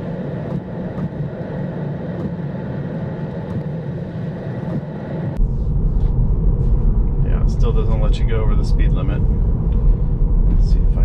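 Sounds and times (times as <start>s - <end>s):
deep rumble: 0.0s - 11.0s
road and tyre noise: 0.0s - 11.0s.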